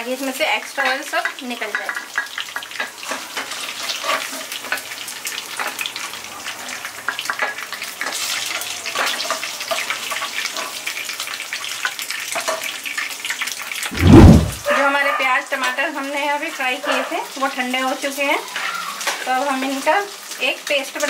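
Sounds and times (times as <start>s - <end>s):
food sizzling and crackling in oil: 0.0s - 13.9s, 15.0s - 21.0s.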